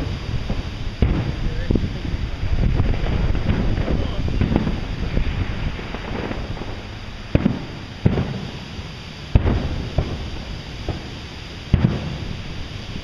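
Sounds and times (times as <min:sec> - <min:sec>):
fireworks shells bursting: 0:00.0 - 0:13.0.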